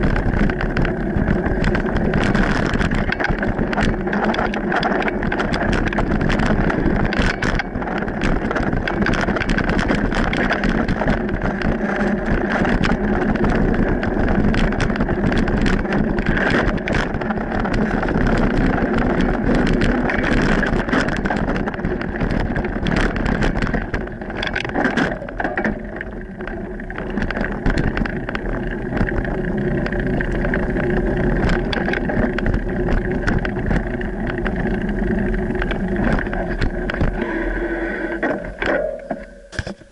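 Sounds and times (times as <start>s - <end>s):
bike rattling: 0.0s - 39.9s
bike tyres rumbling on dirt trail: 0.0s - 39.9s.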